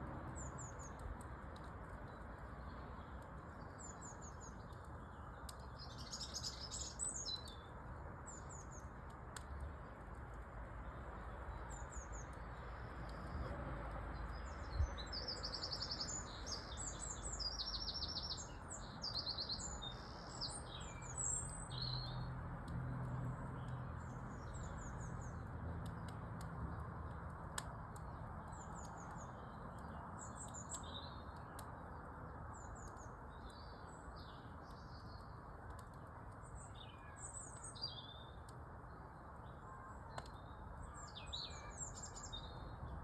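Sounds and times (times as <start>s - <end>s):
small birds chirping: 0.3s - 43.0s.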